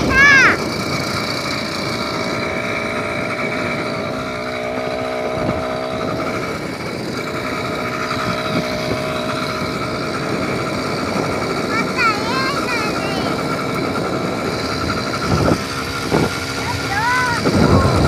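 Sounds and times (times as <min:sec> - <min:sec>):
tyres on dirt road: 0:00.0 - 0:18.0
vehicle engine running: 0:00.0 - 0:18.0.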